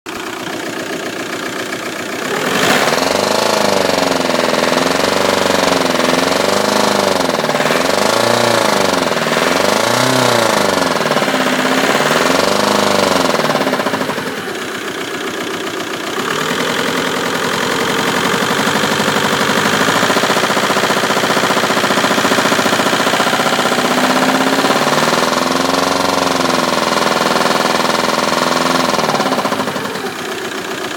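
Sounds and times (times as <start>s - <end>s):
engine knocking: 0.0s - 30.9s.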